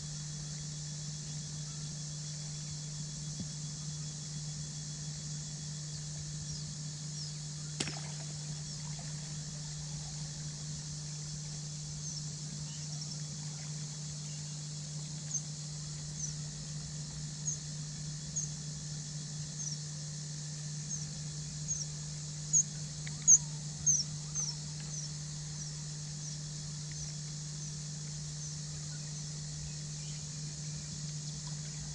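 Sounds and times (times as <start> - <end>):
low hum with hiss: 0.0 - 31.9.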